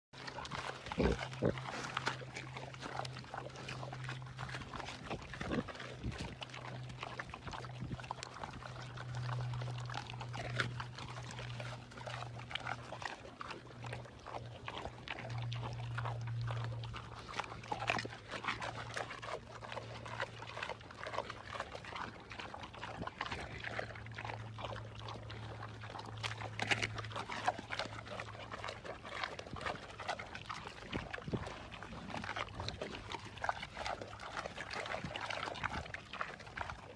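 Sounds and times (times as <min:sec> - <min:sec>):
animals chewing and crunching: 0:00.2 - 0:36.9
steady low hum: 0:00.2 - 0:36.9.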